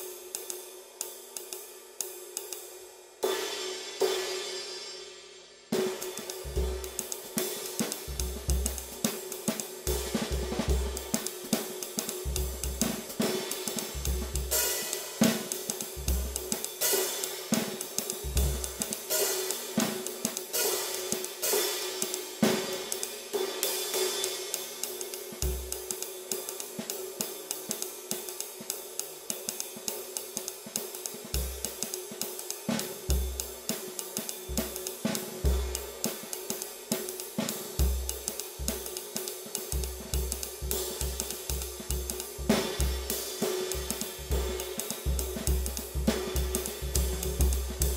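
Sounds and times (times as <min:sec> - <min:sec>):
hi-hat: 0:00.0 - 0:47.9
ride cymbal played with sticks: 0:00.0 - 0:47.9
snare drum: 0:05.7 - 0:47.9.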